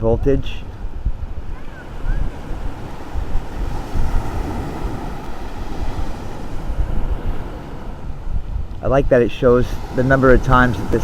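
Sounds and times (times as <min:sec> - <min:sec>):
wind buffeting microphone: 0:00.0 - 0:11.0
ocean surf hissing: 0:00.4 - 0:11.0.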